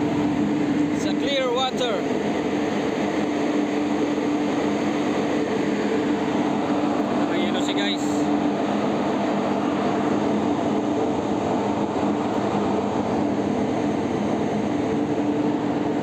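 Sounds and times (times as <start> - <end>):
ship machinery drone: 0.0 - 16.0.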